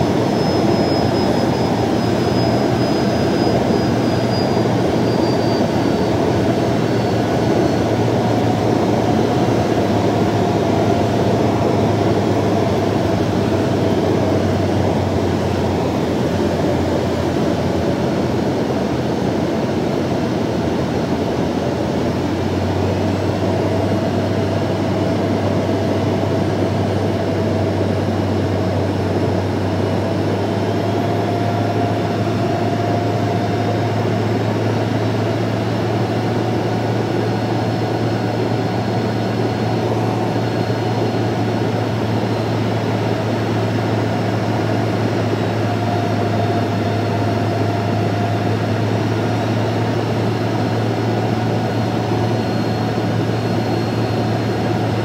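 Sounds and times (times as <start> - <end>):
jet engine cabin hum: 0.0 - 55.0.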